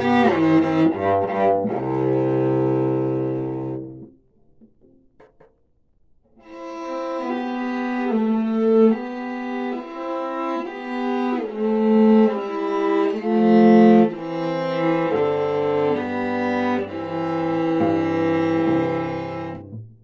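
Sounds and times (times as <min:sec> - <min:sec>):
bowed cello melody: 0:00.0 - 0:05.6, 0:06.3 - 0:20.0.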